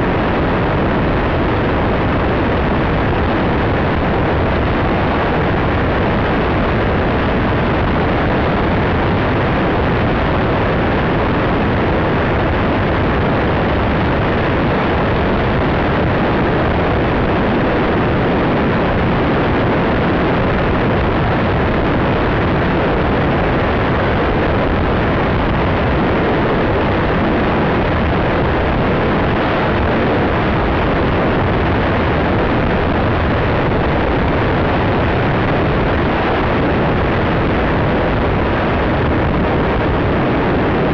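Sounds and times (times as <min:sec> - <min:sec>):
wind rushing over camera: 0:00.0 - 0:40.9.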